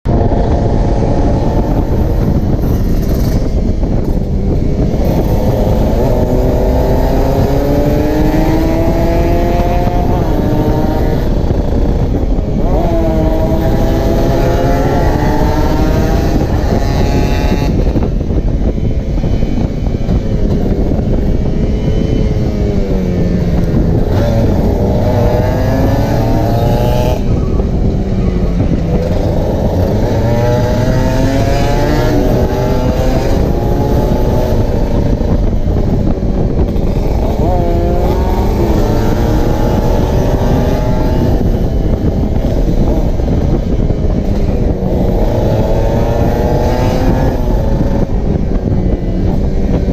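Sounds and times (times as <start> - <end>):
wind rumble on microphone: 0.0 - 49.9
motorcycle engine revving: 0.1 - 49.9.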